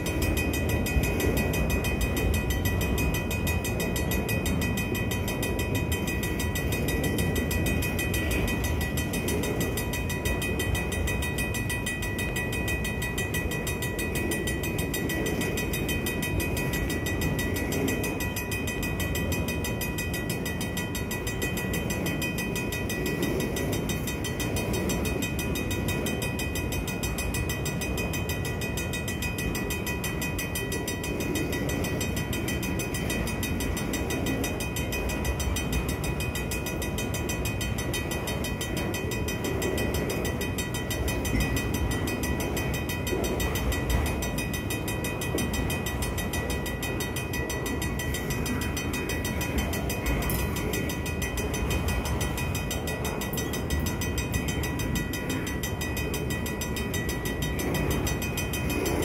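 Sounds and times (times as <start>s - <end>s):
mechanical crossing bell ringing: 0.0s - 59.0s.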